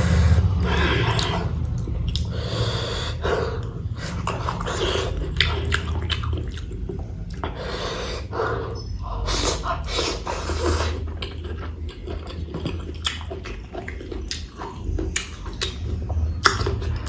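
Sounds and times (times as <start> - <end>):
steady low hum: 0.0 - 17.0
wet chewing and lip-smacking: 0.0 - 17.0.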